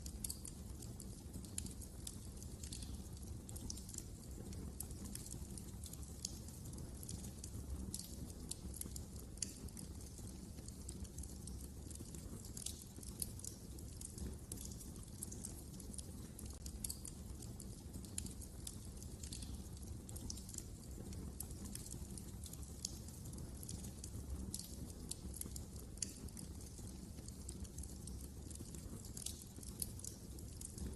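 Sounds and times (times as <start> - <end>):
fire crackling and popping: 0.0 - 30.9
low rumble of flames: 0.0 - 30.9.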